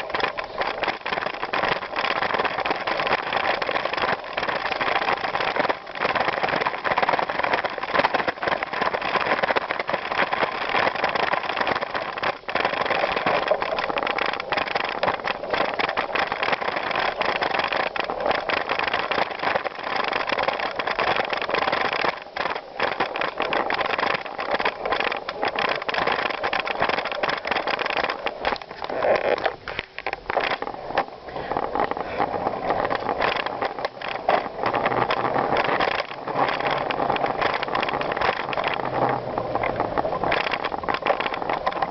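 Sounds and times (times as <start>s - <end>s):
bicycle tyres crunching on gravel: 0.0s - 41.9s.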